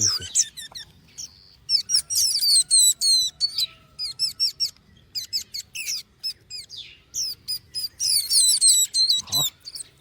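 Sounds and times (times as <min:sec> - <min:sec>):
nestling birds begging chirps: 0:00.0 - 0:10.0.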